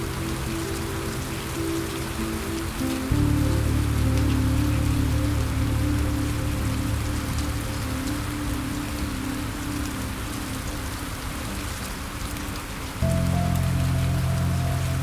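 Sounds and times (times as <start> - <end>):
low music chords: 0.0 - 11.0, 13.0 - 15.0
rain falling: 0.0 - 15.0.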